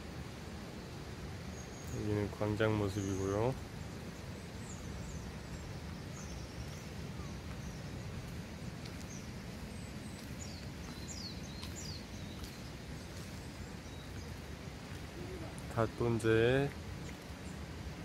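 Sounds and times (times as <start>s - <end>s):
faint bird chirps: 1.5s - 17.7s.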